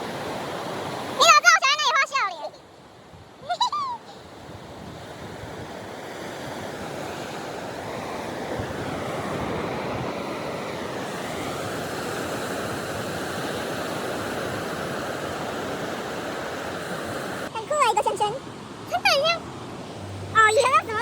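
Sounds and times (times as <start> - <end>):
ocean surf washing on shore: 0.0 - 21.0.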